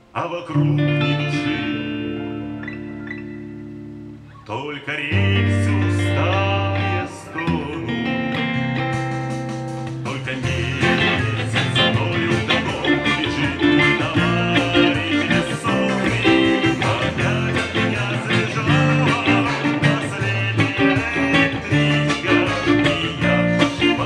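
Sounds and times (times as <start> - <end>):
electric guitar chords: 0.0 - 24.0.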